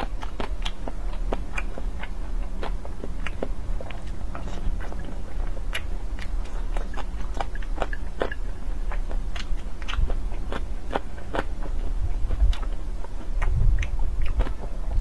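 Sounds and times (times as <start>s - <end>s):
person chewing wetly: 0.0s - 15.0s.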